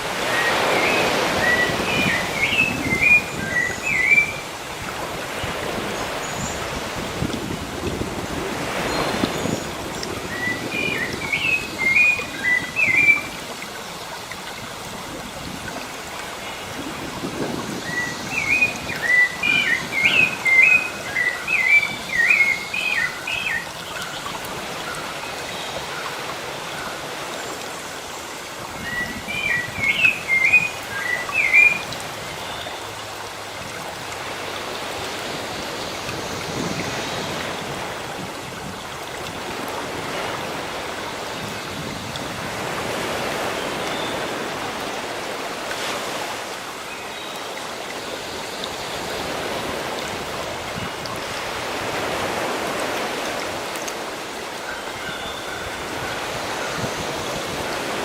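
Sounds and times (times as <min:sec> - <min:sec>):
sea waves: 0:00.0 - 0:58.0.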